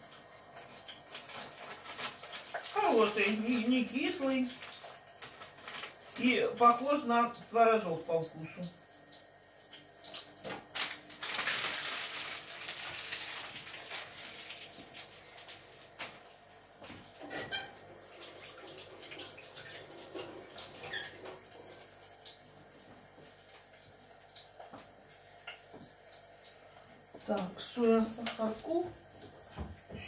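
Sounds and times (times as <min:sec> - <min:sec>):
water running from tap: 0:00.0 - 0:30.0.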